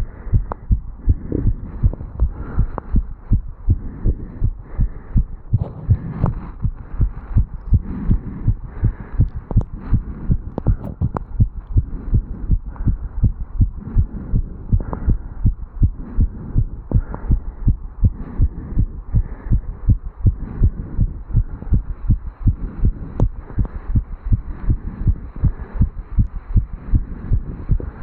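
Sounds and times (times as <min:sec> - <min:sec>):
fast heartbeat thumps: 0:00.0 - 0:28.0.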